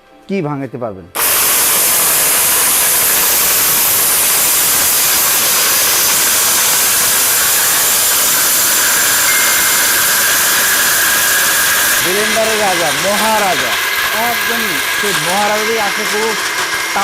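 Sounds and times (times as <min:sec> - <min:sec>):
mixer grinder whirring: 0:01.2 - 0:17.0.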